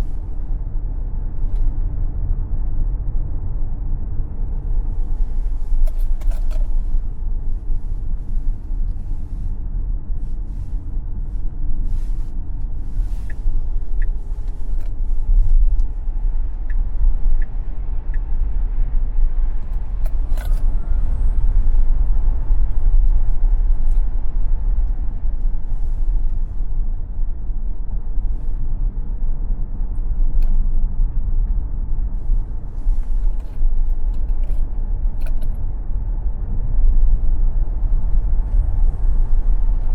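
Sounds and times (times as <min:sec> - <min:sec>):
tyre and road noise rumble: 0:00.0 - 0:39.9.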